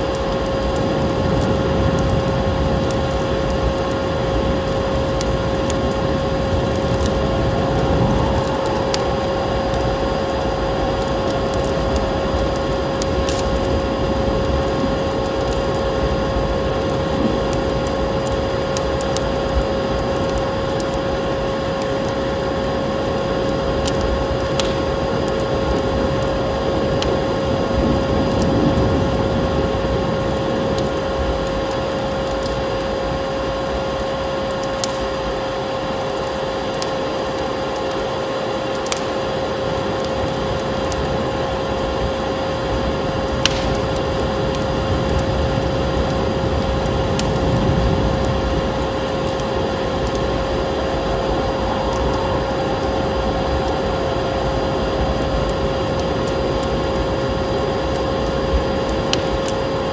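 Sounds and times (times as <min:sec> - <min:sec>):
steady rushing noise with hum: 0:00.0 - 0:59.9
wood fire crackling and popping: 0:00.0 - 0:59.9.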